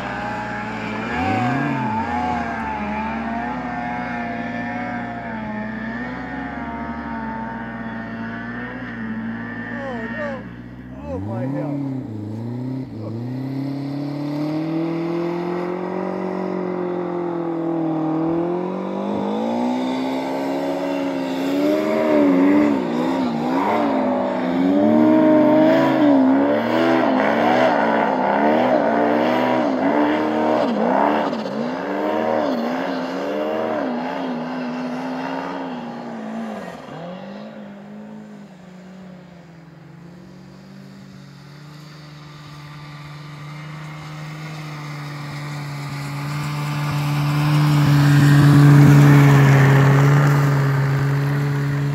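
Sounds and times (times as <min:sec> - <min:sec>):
snowmobile engine revving: 0:00.0 - 0:38.7, 0:40.2 - 0:51.9.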